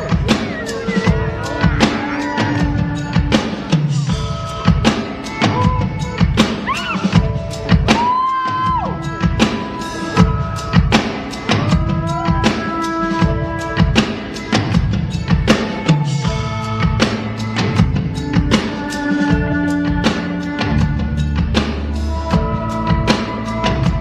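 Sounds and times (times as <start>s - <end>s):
drum kit beat: 0.0s - 24.0s
live band music: 0.0s - 24.0s.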